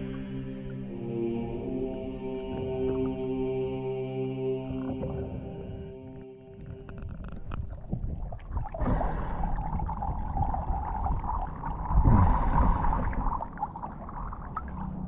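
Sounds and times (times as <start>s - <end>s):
water gurgling and sloshing: 0.0s - 15.0s.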